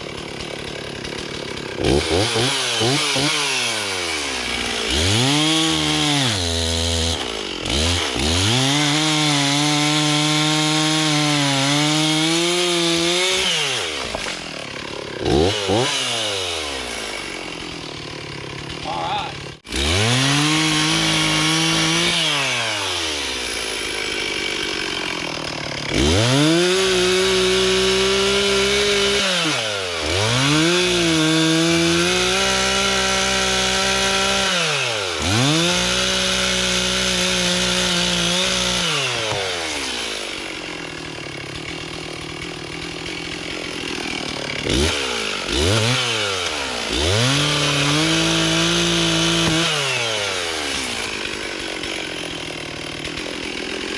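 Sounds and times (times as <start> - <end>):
chainsaw revving and cutting wood: 0.0 - 53.9.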